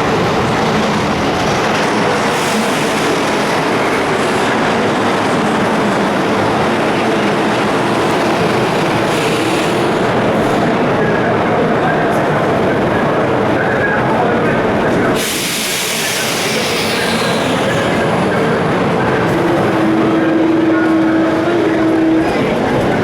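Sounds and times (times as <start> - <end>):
train rumbling inside car: 0.0 - 23.0.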